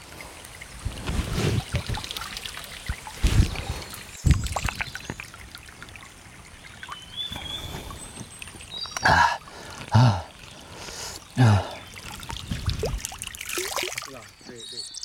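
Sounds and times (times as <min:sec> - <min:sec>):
water splashing and pouring: 0:00.0 - 0:14.6
stream trickling: 0:00.0 - 0:15.0.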